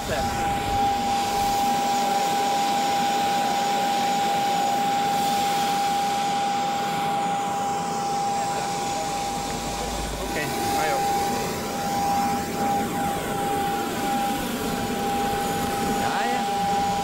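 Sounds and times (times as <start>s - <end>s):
jet engines idling with whine: 0.0s - 17.0s.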